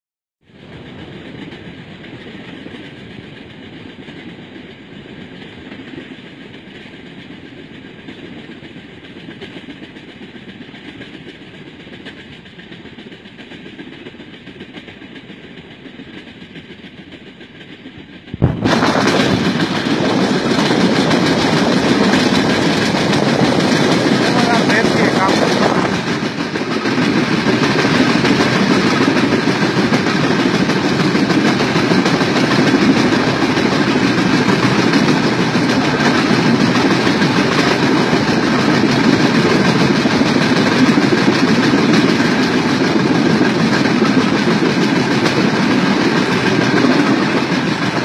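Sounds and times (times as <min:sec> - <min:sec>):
train wheels rumbling on rails: 0:00.4 - 0:48.0.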